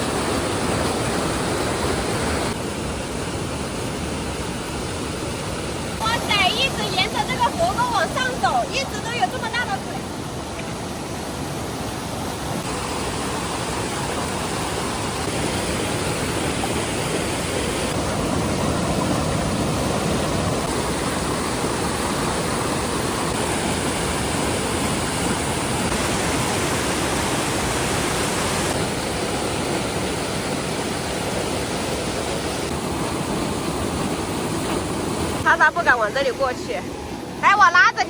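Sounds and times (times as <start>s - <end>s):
creek water rushing loudly: 0.0s - 38.0s.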